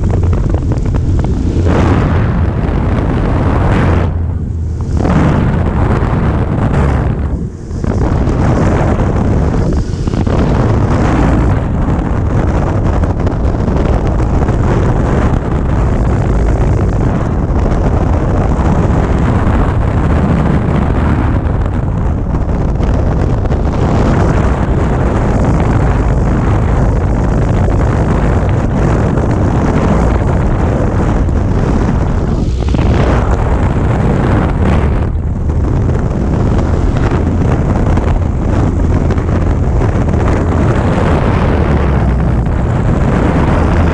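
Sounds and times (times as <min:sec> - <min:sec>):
light airplane engine and propeller: 0:00.0 - 0:43.9
wind buffeting microphone: 0:00.0 - 0:43.9.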